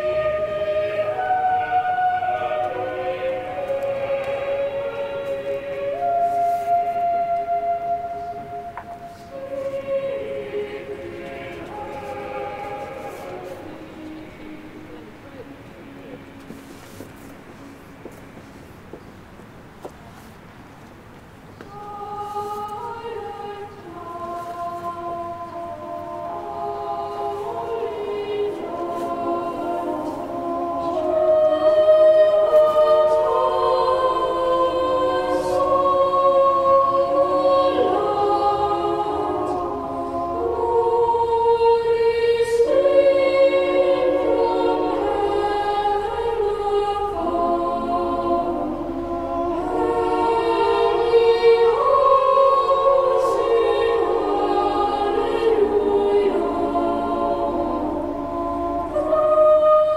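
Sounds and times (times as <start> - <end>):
choir singing slow chords: 0.0 - 59.9.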